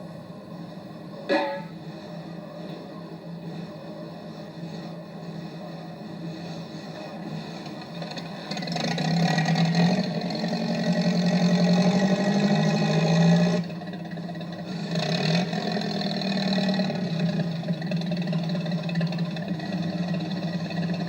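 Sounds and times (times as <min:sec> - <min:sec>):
machine engine running under load: 0:00.0 - 0:21.0.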